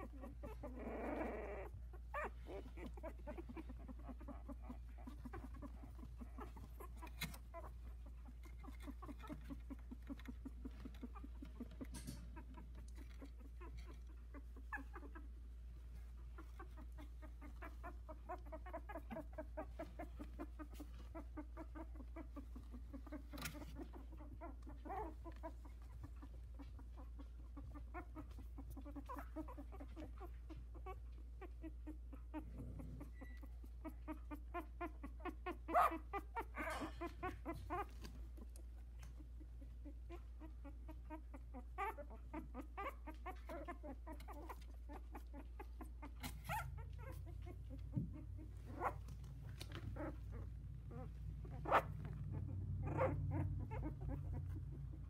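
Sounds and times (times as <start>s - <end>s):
puppies squeaking and whimpering: 0.0s - 55.0s.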